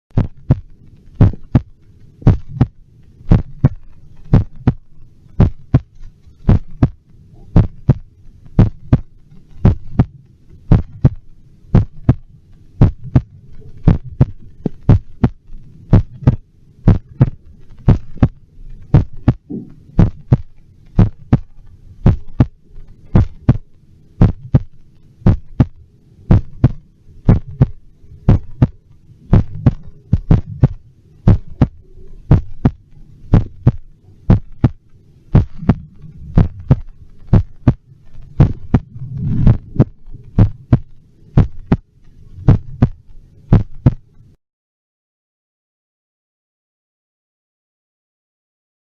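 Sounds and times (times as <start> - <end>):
amplified heartbeat: 0.1 - 44.1
faint steady hum: 0.1 - 44.4.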